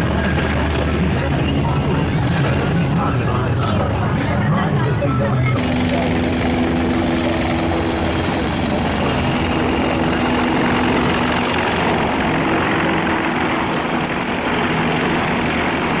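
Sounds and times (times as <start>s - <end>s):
helicopter overhead: 0.0s - 16.0s.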